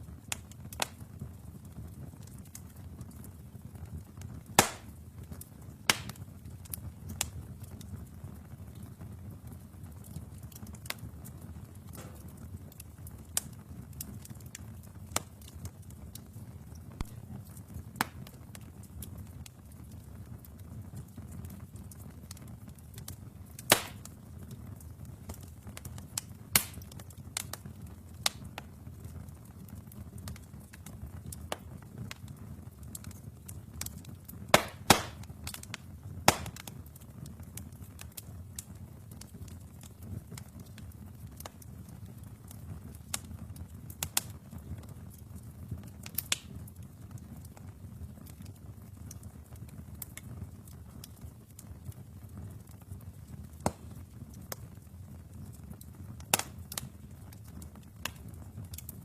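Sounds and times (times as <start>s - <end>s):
burning logs crackling and popping: 0.0s - 59.0s
low rumble of flames: 0.0s - 59.0s.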